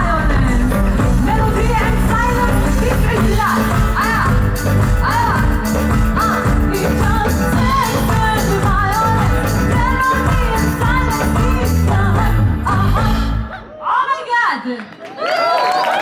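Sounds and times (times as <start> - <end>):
live rock band playing: 0.0 - 13.4
person singing: 0.0 - 13.7.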